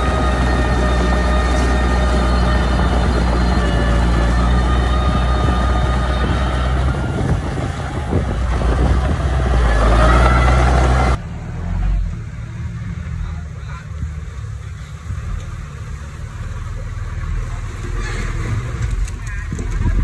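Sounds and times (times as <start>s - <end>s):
bulldozer engine working loudly: 0.0s - 20.0s
dump truck driving slowly: 0.0s - 20.0s.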